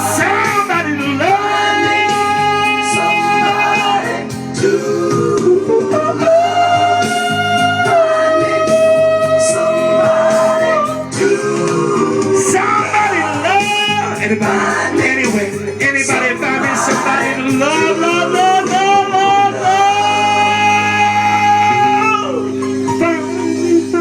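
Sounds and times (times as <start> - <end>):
guitar: 0.0 - 24.0
person singing: 0.0 - 24.0.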